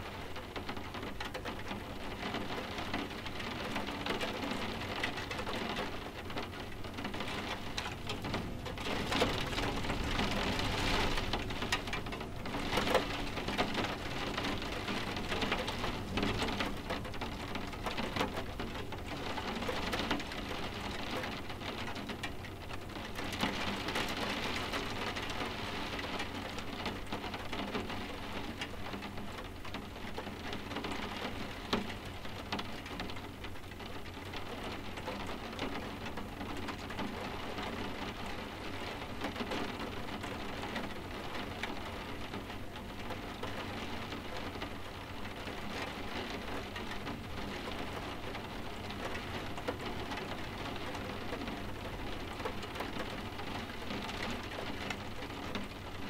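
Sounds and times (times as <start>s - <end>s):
rain tapping on window glass: 0.0s - 56.0s.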